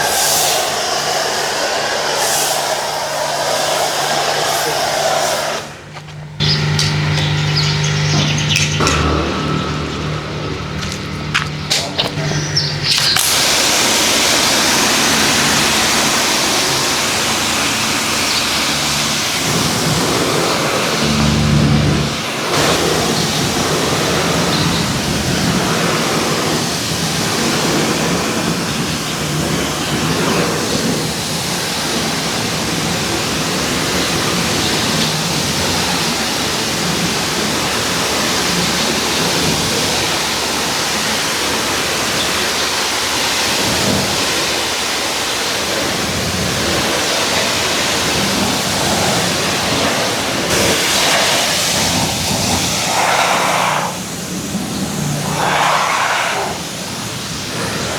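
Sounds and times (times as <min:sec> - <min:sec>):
pressure washer spraying water: 0:00.0 - 0:57.9.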